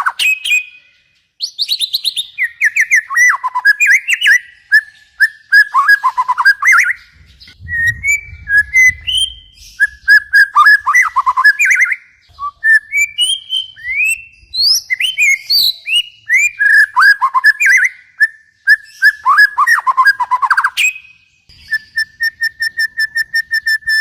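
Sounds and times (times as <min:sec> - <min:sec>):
songbird singing whistled notes: 0:00.0 - 0:24.0.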